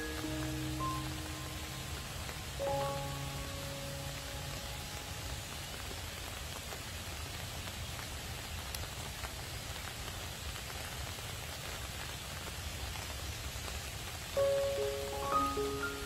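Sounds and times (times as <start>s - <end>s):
raindrops ticking: 0.0s - 16.0s
steady rain hiss: 0.0s - 16.0s.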